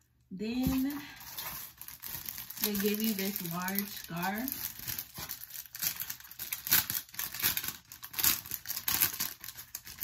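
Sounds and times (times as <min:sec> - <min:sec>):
plastic bag crinkling: 0:00.6 - 0:10.0.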